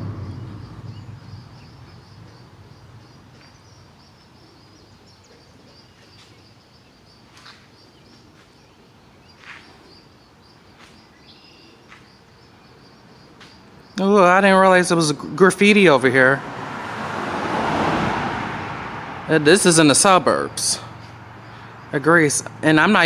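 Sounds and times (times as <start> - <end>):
insects chirping: 0.0 - 23.0
low traffic rumble: 0.0 - 23.0.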